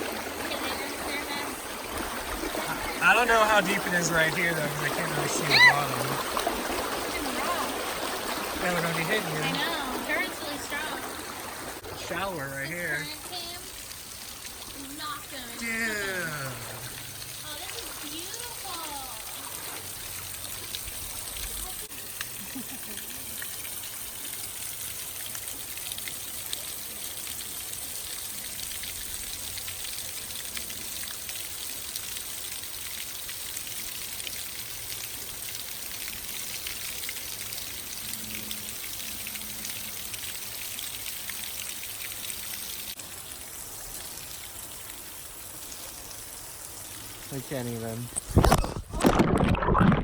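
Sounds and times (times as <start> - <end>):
creek water rushing over rocks: 0.0 - 30.1, 30.8 - 50.0.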